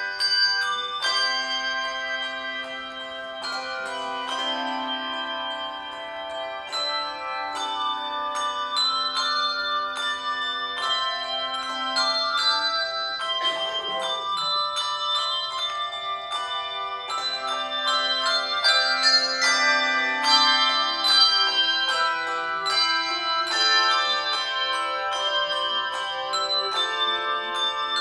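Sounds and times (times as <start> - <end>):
handbell choir ringing chords: 0.0 - 28.0.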